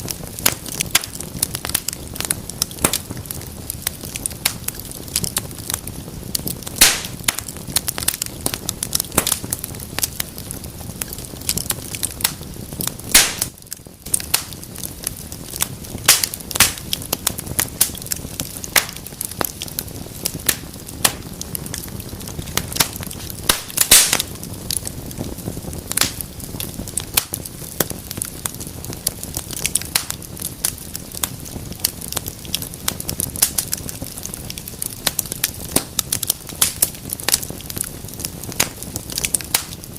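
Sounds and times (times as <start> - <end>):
low rush of flame: 0.0 - 39.9
wood fire crackling: 0.0 - 39.9.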